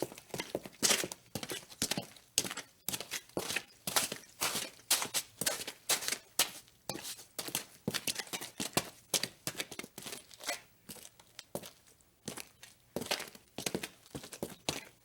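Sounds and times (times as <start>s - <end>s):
footsteps walking: 0.0s - 15.0s.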